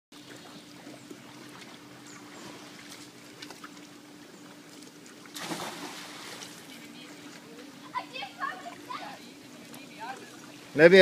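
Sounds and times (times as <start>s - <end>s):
steady low hum: 0.2s - 11.0s
water lapping: 0.2s - 11.0s.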